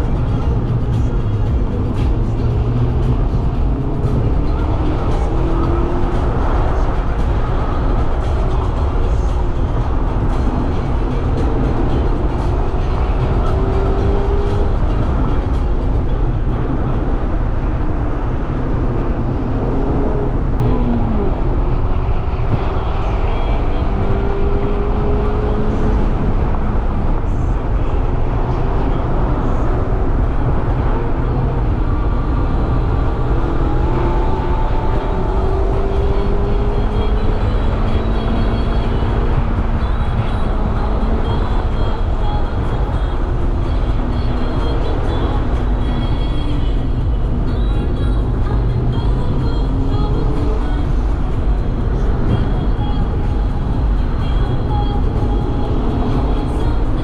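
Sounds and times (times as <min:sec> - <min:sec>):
faint engine tones: 0:00.0 - 0:57.0
road and wind rumble: 0:00.0 - 0:57.0.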